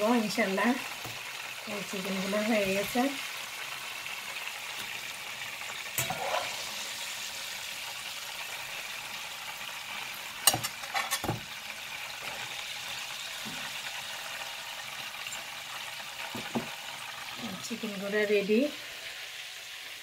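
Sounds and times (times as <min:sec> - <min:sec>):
oil frying hiss: 0:00.0 - 0:20.0.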